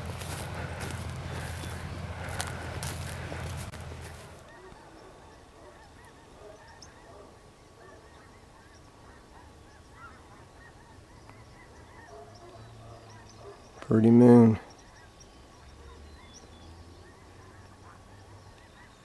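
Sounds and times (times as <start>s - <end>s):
distant geese honking: 0.0s - 19.0s.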